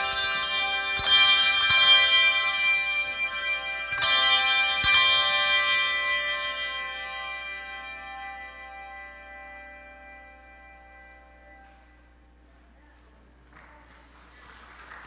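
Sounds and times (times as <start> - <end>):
handbells ringing chords: 0.0 - 12.4.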